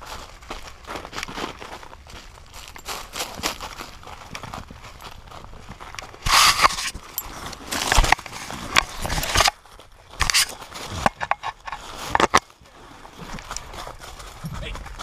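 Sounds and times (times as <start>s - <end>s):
dry leaves crunching: 0.0s - 15.0s
camera scraping on ground: 2.6s - 15.0s.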